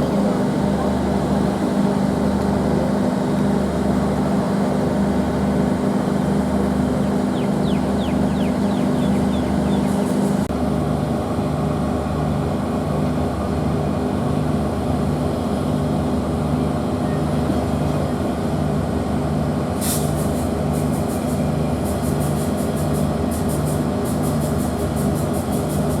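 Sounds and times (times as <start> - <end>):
diesel train drone: 0.0 - 26.0.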